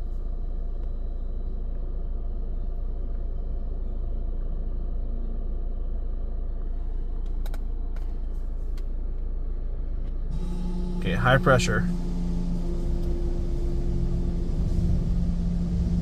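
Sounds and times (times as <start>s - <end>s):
car wash low rumble: 0.0s - 16.0s.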